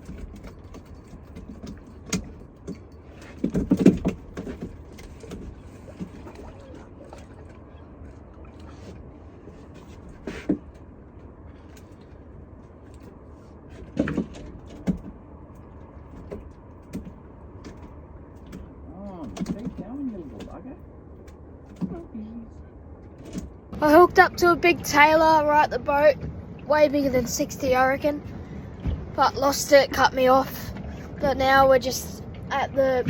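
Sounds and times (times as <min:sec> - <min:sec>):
gear knocking in a boat: 0:00.0 - 0:12.2, 0:12.8 - 0:22.1, 0:23.0 - 0:33.0
steady low rumble: 0:00.0 - 0:33.0.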